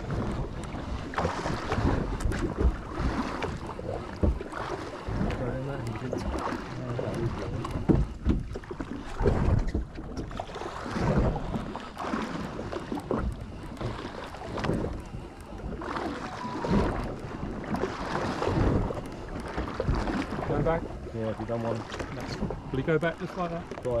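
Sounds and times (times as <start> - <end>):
water slapping against boat hull: 0.0 - 24.0
wind buffeting the microphone: 0.0 - 24.0.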